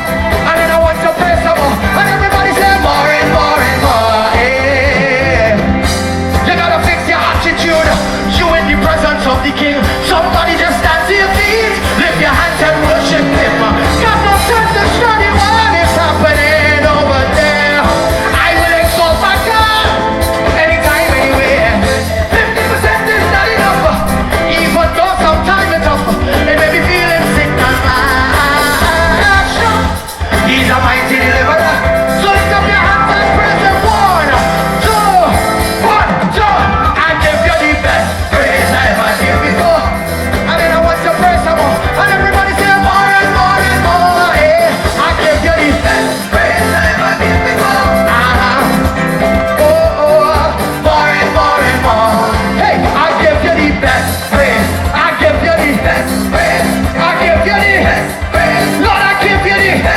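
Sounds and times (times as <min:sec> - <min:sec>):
gospel band playing: 0:00.0 - 0:59.9
person singing: 0:00.0 - 0:59.9.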